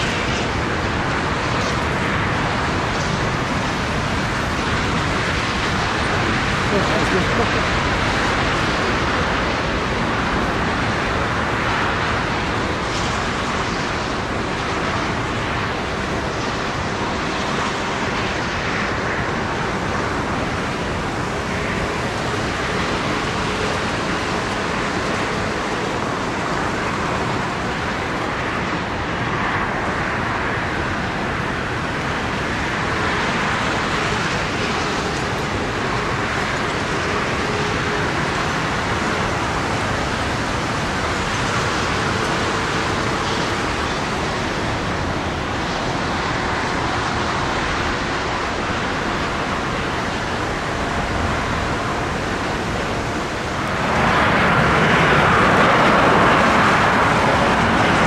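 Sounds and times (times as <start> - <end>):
jet airliner landing roar: 0.0 - 58.0.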